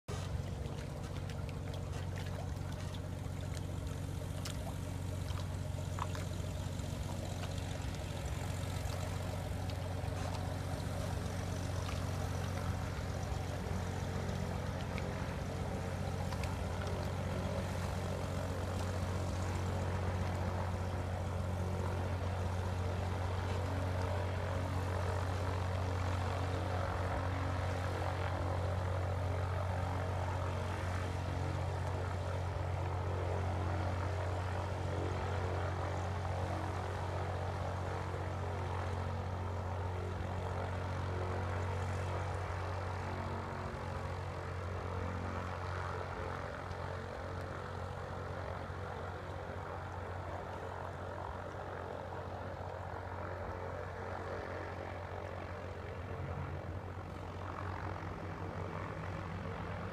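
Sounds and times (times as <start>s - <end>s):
floatplane propeller engine: 0.0s - 59.9s.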